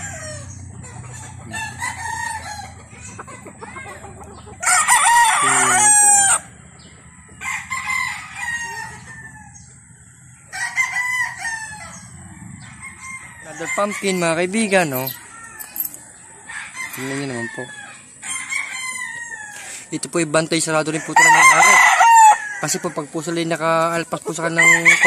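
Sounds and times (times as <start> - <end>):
rooster crowing: 0.0 - 9.8, 10.5 - 19.9, 20.8 - 23.3, 24.4 - 25.0
chickens crowing and clucking: 0.0 - 25.0.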